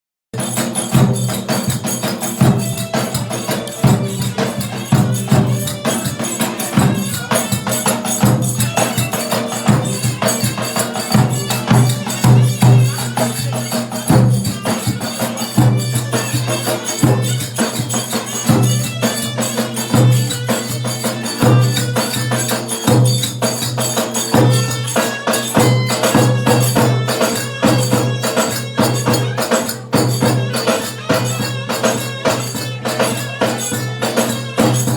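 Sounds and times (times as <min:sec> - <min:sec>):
folk dance music: 0:00.4 - 0:34.9
rapid percussion with jingles: 0:00.4 - 0:34.9.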